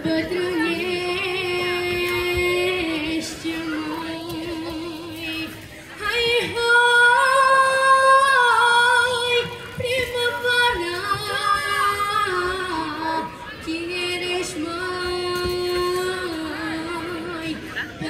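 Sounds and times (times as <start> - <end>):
woman singing into microphone: 0.0 - 18.0.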